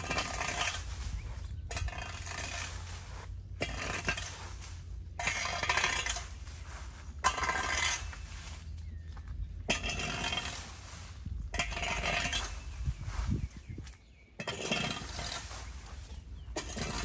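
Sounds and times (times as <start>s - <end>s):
broom sweeping leaves on concrete: 0.0s - 9.2s, 9.8s - 13.7s, 14.6s - 17.0s.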